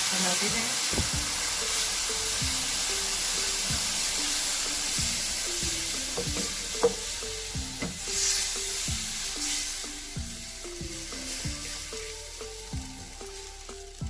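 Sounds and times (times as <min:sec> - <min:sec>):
flour sizzling in a hot pan: 0:00.0 - 0:14.0
background music with light beat: 0:00.4 - 0:14.0.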